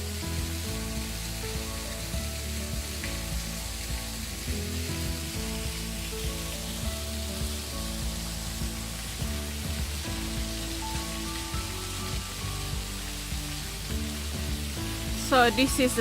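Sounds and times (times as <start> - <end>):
soft melodic music: 0.0 - 16.0
waterfall rushing: 0.0 - 16.0.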